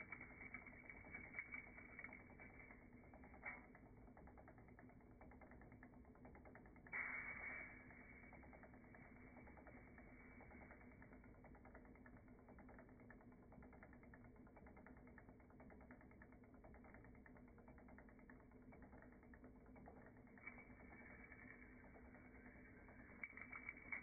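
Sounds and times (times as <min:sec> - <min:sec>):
fine rapid ticking: 0:00.0 - 0:24.0.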